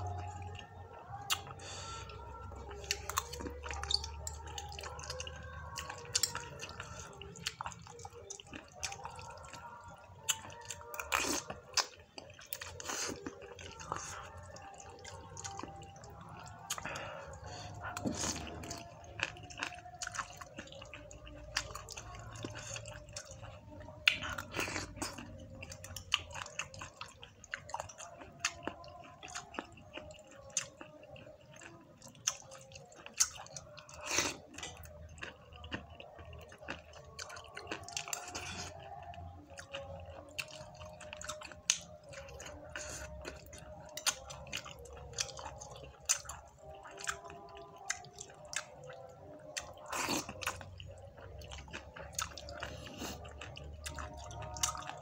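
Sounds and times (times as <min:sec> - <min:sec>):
person chewing and slurping noodles: 0:00.0 - 0:55.0.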